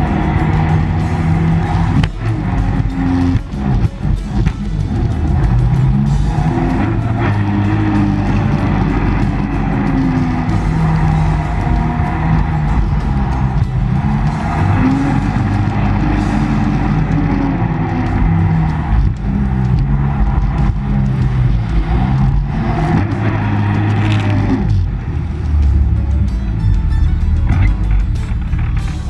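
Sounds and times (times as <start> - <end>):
engine running loudly: 0.0 - 29.0
music playing: 0.0 - 29.0.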